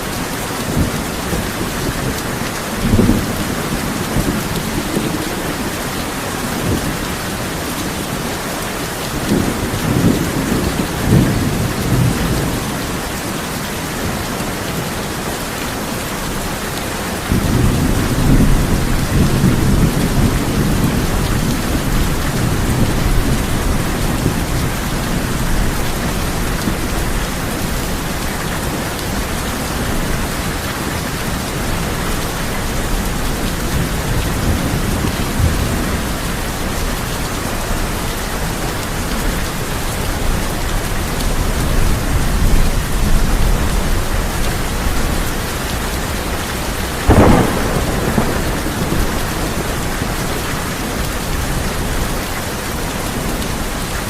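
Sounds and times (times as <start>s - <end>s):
heavy rain on a tin roof: 0.0s - 54.0s
thunder rumbling: 0.7s - 13.1s, 17.2s - 46.2s, 46.8s - 52.3s.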